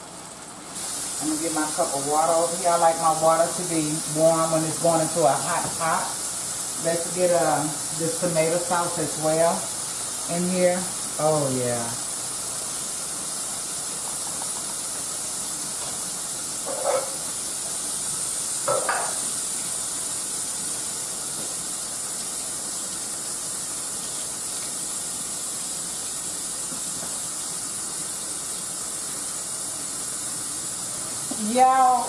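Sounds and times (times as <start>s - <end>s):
vegetables sizzling in skillet: 0.0s - 32.0s.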